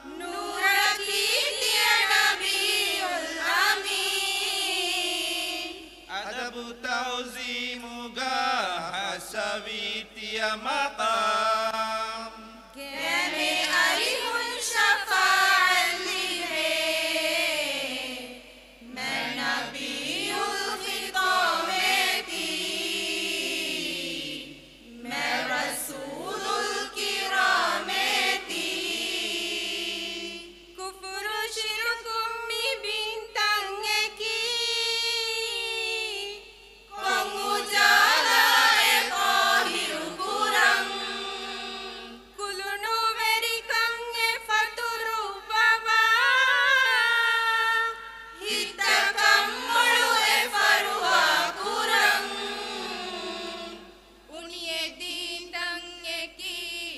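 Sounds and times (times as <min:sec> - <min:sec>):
group chanting devotional song: 0:00.0 - 0:56.9.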